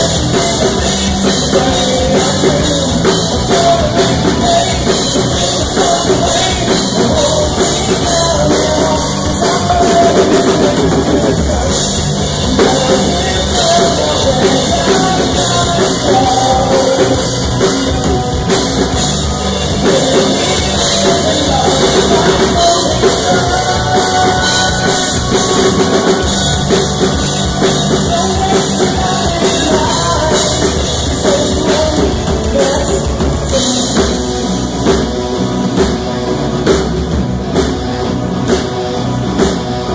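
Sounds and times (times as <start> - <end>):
man singing into a microphone: 0.0 - 18.1, 19.2 - 34.4
drum kit: 0.0 - 39.9
electric guitar: 0.0 - 39.9.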